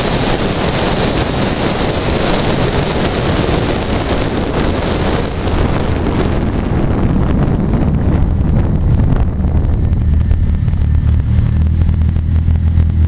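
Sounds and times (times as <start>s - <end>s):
car engine running: 0.0s - 13.0s
wind rushing on microphone: 0.0s - 13.0s.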